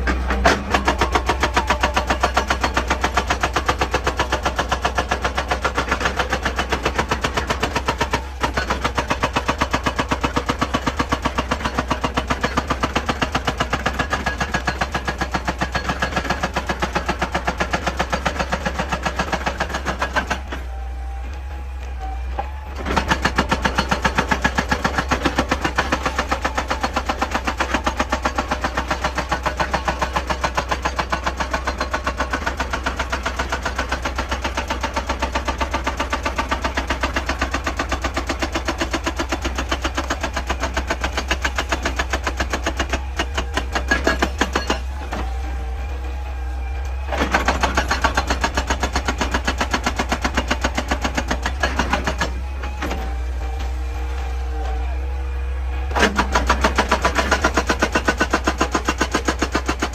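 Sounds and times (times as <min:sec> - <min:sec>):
excavator engine drone: 0:00.0 - 0:59.9
hydraulic rock breaker hammering: 0:00.0 - 0:59.9.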